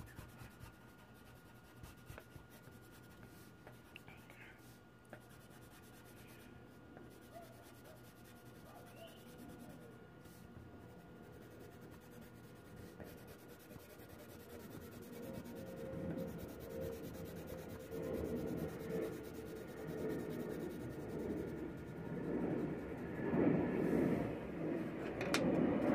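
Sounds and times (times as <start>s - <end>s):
pencil scratching on paper: 0.0s - 23.2s.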